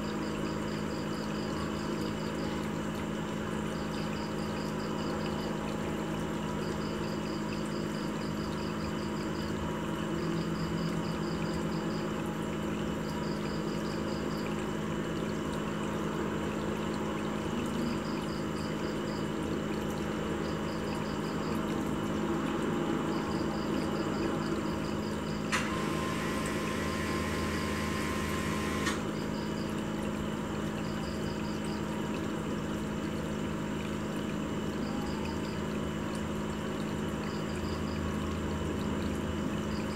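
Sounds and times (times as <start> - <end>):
aquarium pump humming: 0.0 - 39.9
trickling splashing water: 0.0 - 39.9.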